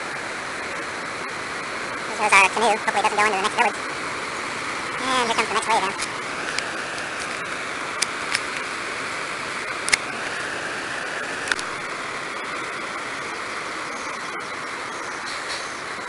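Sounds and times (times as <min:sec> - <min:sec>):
surf roaring over shore: 0:00.0 - 0:13.8.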